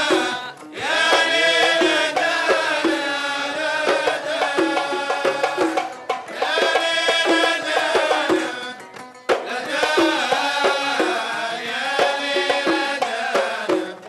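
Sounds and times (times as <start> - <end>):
drum and percussion strokes: 0.0 - 14.0
men singing: 0.0 - 14.0.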